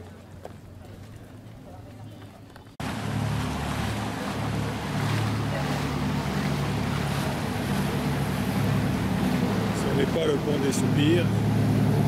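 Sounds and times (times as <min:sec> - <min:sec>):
motorboat engine running: 0:00.0 - 0:12.0
water noise: 0:00.0 - 0:12.0.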